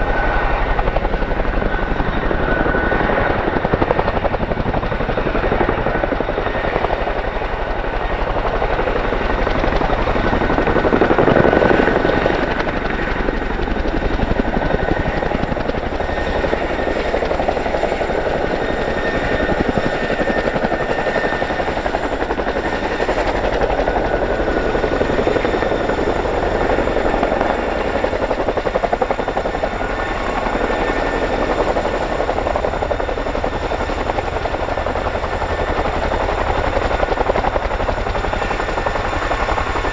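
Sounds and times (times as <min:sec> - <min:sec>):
helicopter rotors chopping: 0:00.0 - 0:39.9
high turbine whine: 0:00.0 - 0:39.9.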